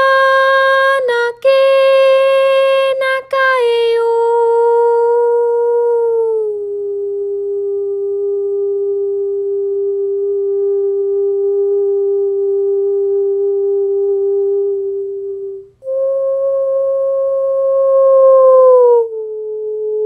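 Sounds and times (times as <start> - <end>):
sustained pure tone: 0.0 - 20.0.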